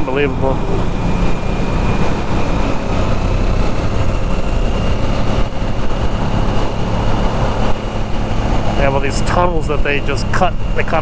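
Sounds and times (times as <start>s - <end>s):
motorcycle engine droning: 0.0s - 11.0s
rush of noise: 0.0s - 11.0s.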